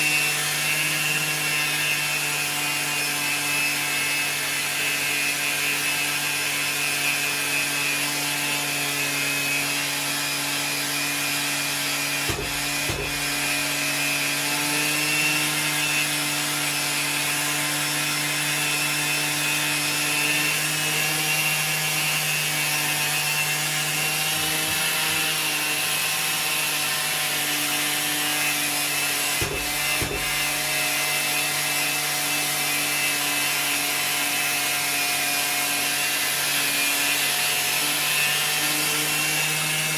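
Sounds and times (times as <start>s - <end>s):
dust extractor drawing through hose: 0.0s - 39.9s
orbital sander on metal: 0.0s - 39.9s.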